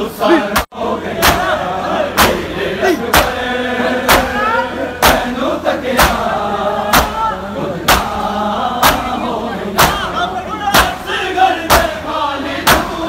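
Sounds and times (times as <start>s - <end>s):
voices chanting a lament: 0.0s - 13.0s
men beating chests in unison: 0.3s - 13.0s.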